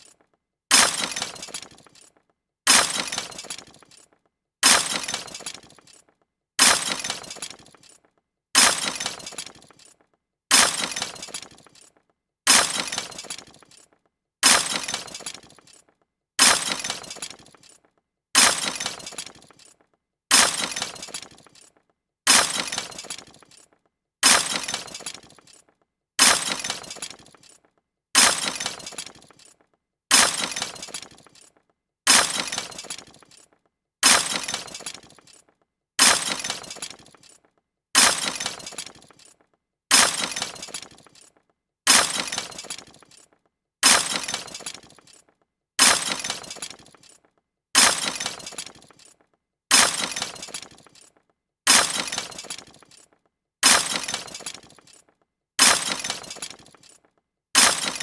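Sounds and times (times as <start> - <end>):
debris crash and clatter: 0.0 - 58.0.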